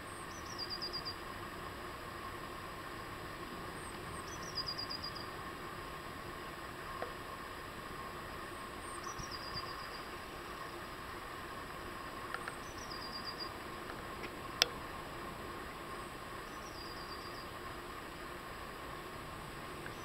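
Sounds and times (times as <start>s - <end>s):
faint background hum: 0.0s - 20.0s.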